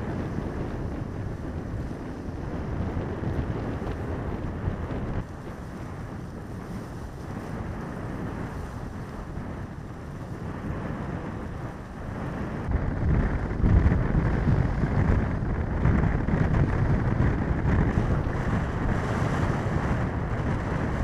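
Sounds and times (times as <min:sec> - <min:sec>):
choppy water: 0:00.0 - 0:21.0
wind buffeting microphone: 0:00.0 - 0:21.0.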